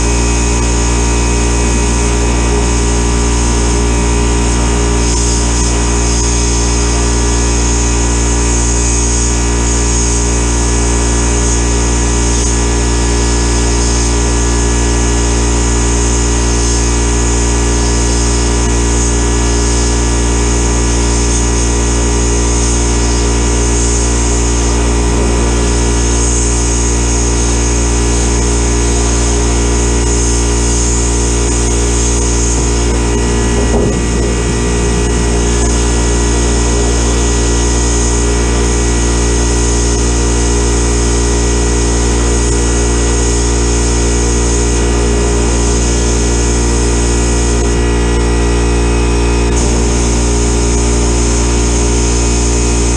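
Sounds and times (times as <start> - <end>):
air compressor humming: 0.0 - 52.9
sandblast gun hissing: 0.0 - 52.9.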